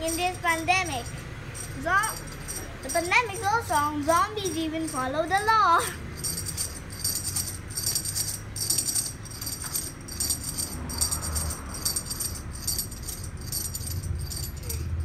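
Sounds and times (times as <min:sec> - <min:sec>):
rhythmic metallic jingling: 0:00.0 - 0:15.0.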